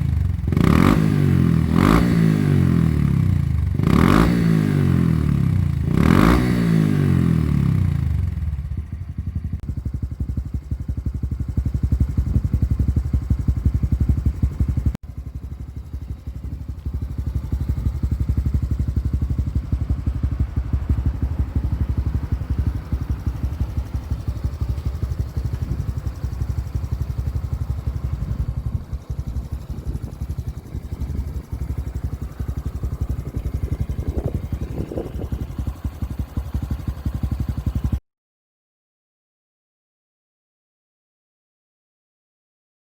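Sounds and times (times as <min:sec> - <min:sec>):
motorcycle engine revving and idling: 0:00.0 - 0:38.0.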